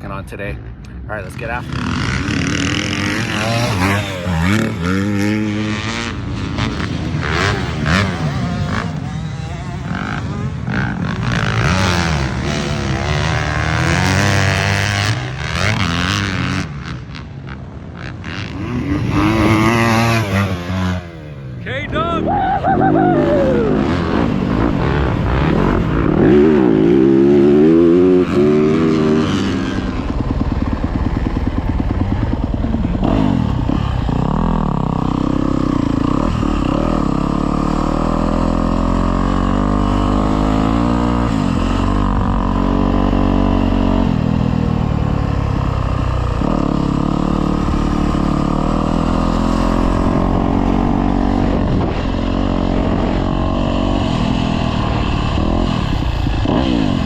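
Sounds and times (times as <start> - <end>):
dirt bike engine revving: 1.4 - 57.0.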